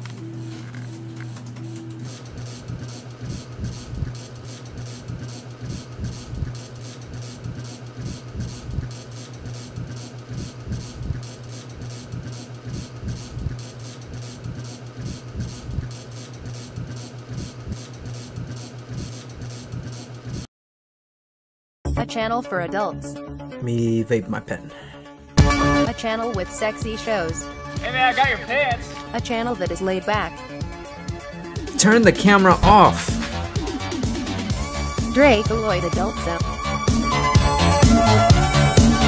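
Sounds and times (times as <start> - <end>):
fast pulsing rhythm: 0.1 - 20.4, 25.4 - 39.0.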